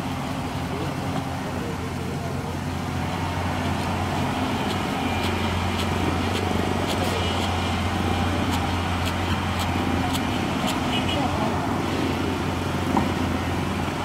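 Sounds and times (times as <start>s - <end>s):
excavator diesel engine drone: 0.0s - 14.0s.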